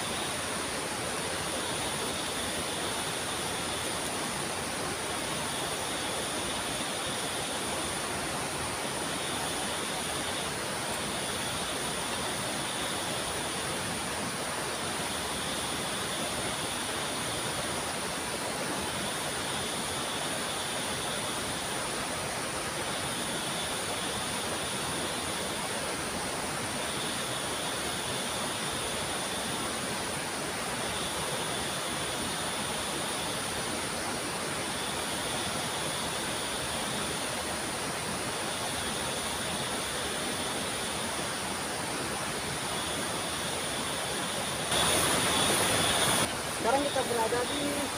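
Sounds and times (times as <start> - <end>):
waterfall and rapids rushing: 0.0 - 47.9.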